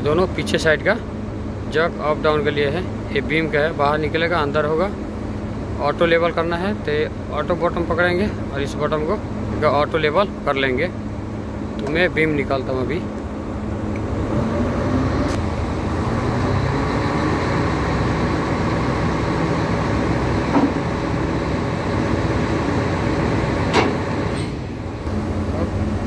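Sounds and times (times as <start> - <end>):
crane hydraulic hum: 0.0 - 26.0.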